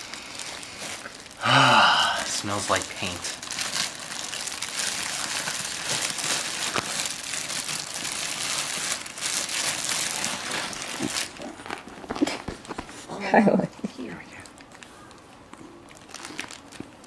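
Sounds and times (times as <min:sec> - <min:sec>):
packaging crinkling and rustling: 0:00.0 - 0:13.1, 0:14.4 - 0:17.0.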